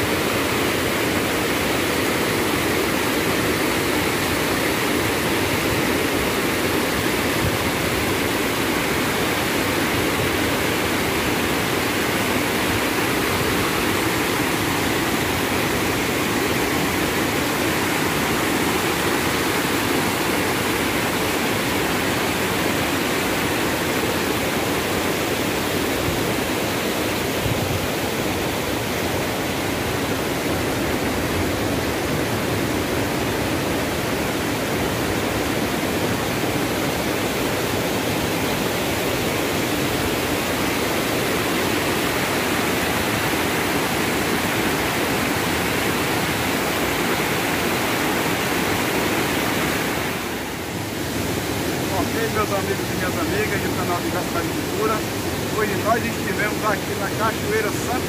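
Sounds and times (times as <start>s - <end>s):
water rushing over boulders: 0.0s - 58.0s.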